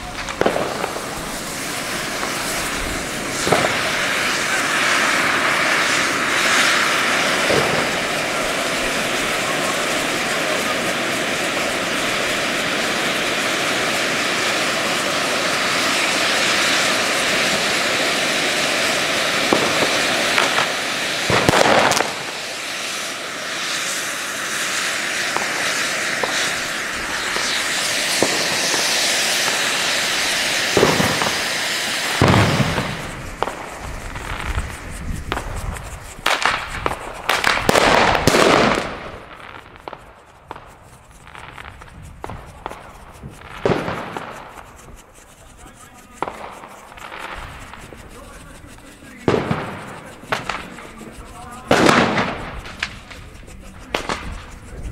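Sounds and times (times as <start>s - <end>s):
fireworks fountain hissing: 0.0s - 54.9s
fireworks popping and crackling: 0.0s - 54.9s.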